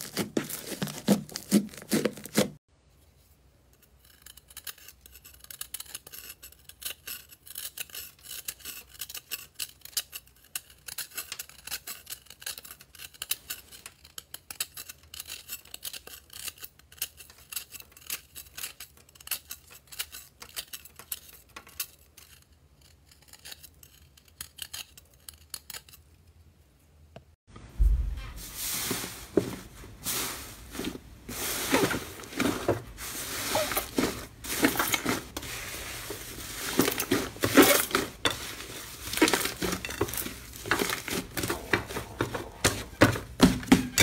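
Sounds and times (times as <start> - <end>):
tool scraping crumbly ball: 0.0 - 2.6, 3.2 - 26.1, 27.8 - 44.0.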